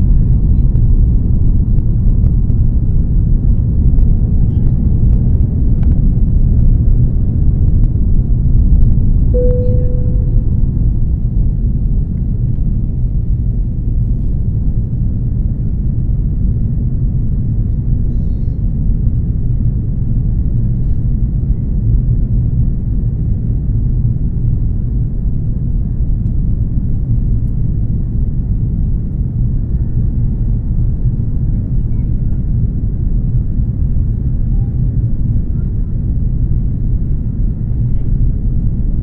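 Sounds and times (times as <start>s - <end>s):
airliner cabin engine rumble: 0.0s - 8.7s, 12.8s - 39.0s.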